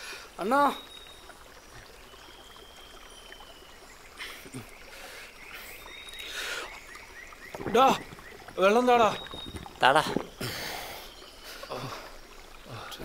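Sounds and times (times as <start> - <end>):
stream water running: 0.0 - 13.0
faint chirps: 0.4 - 13.0.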